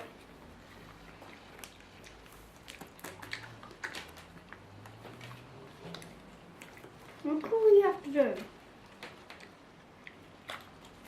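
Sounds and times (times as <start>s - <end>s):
chewing mouth sounds: 0.0s - 7.5s, 8.5s - 11.0s.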